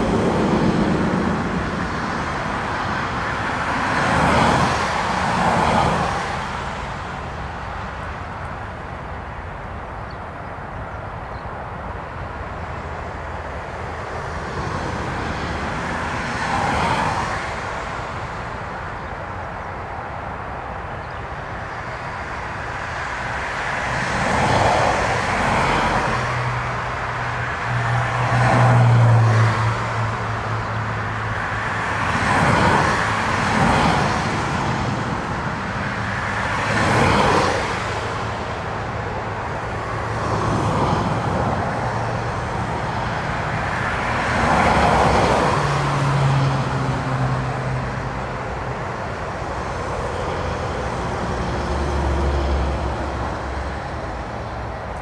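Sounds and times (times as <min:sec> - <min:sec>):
jet engines droning: 0:00.0 - 0:28.6, 0:30.1 - 0:55.0.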